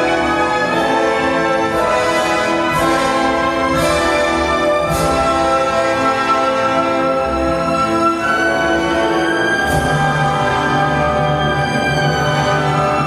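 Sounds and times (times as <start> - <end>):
orchestral ballet music: 0.0 - 13.0.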